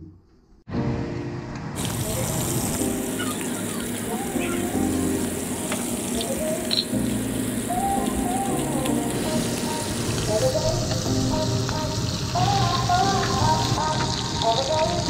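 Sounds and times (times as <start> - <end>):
background music: 0.7 - 15.0
fish sizzling in a pan: 1.8 - 15.0.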